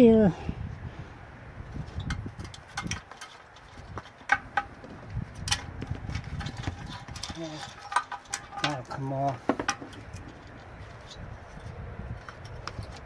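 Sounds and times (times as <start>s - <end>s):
dull knocks of parts handled: 1.9s - 13.0s.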